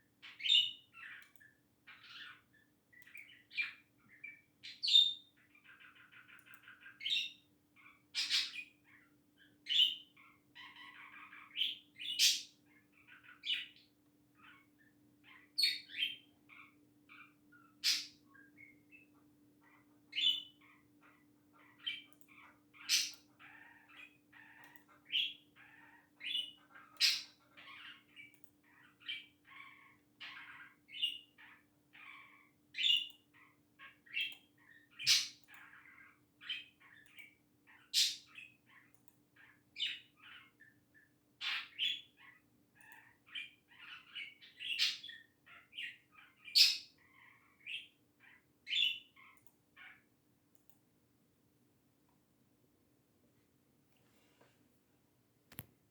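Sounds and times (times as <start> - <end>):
budgerigar chirping and squawking: 0.2 - 50.1.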